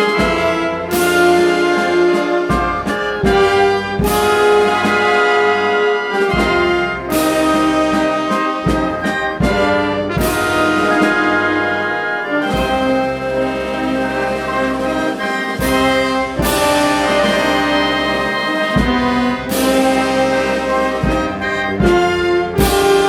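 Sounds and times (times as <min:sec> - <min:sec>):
brass band playing march: 0:00.0 - 0:23.0.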